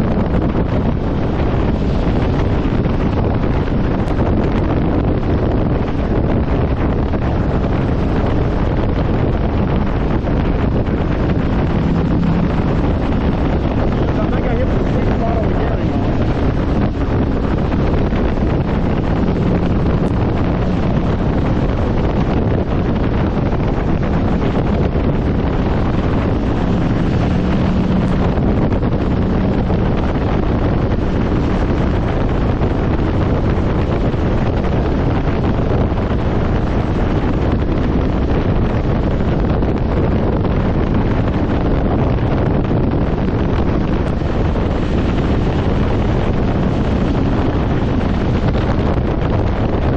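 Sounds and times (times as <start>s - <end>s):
motorcycle engine low drone: 0.0s - 49.9s
wind rushing over microphone: 0.0s - 49.9s.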